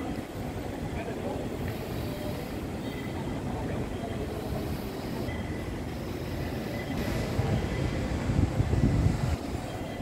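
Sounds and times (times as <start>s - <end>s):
faint high whine: 0.0s - 10.0s
train rumbling: 0.0s - 10.0s.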